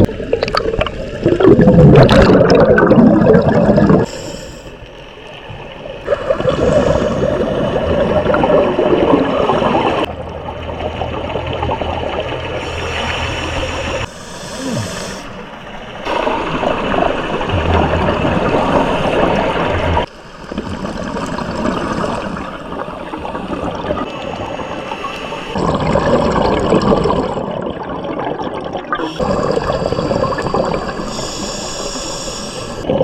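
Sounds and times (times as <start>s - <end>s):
diver's exhaled bubbles gurgling: 0.0s - 4.1s, 5.6s - 32.0s.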